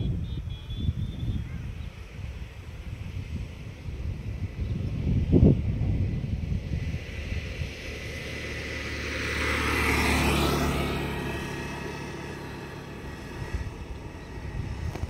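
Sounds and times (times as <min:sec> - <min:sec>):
motor vehicle passing: 0:01.9 - 0:15.0.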